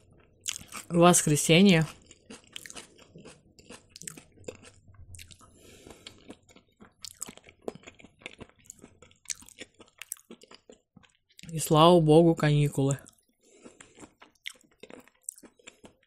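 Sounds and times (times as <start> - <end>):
person chewing: 0.0 - 11.8, 12.9 - 16.0.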